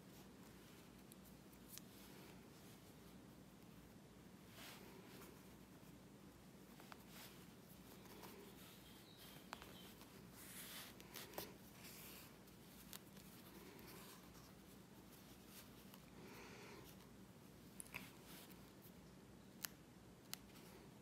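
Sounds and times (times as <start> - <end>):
thread rustling through fabric: 0.0 - 21.0.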